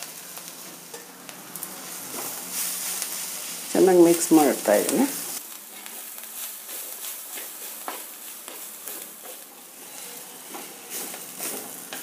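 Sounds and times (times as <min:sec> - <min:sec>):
hot oil sizzling: 0:00.0 - 0:12.0
spatula scraping in pan: 0:00.6 - 0:12.0.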